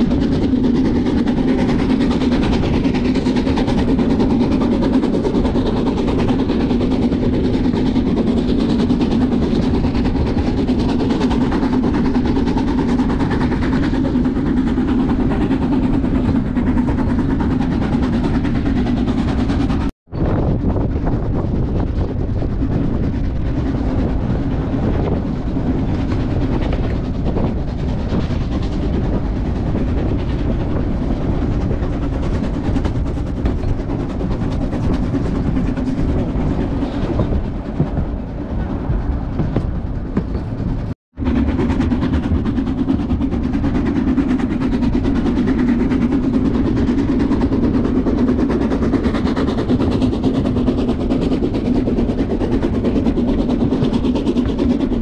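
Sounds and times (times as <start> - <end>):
steam train rolling rumble: 0.0 - 55.0.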